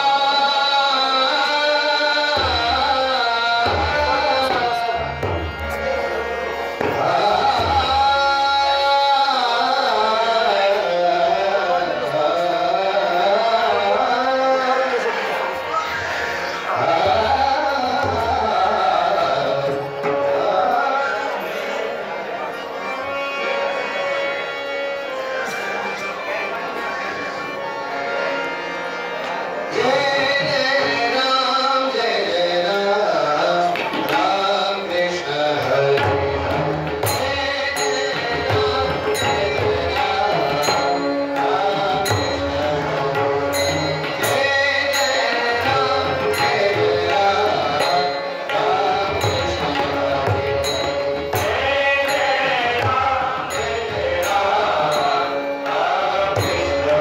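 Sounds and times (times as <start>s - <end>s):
person singing devotional song: 0.0s - 23.2s, 29.6s - 57.0s
accompanying music: 0.0s - 57.0s
tabla: 0.0s - 57.0s.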